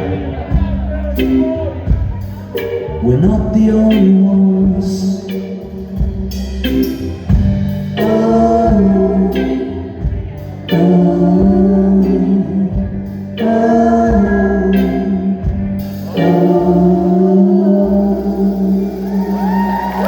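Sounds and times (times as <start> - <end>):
live band playing: 0.0 - 20.0
voices singing long notes: 0.0 - 20.0.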